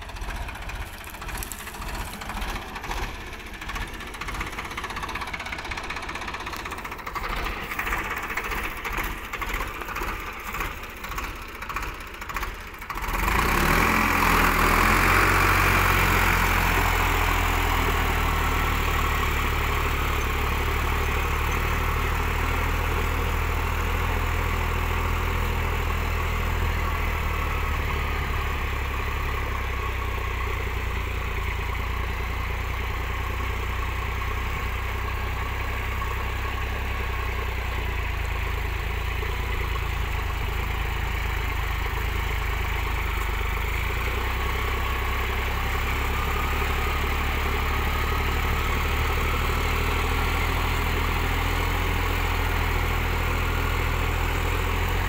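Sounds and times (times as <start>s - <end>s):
tractor diesel engine revving: 0.0s - 55.0s.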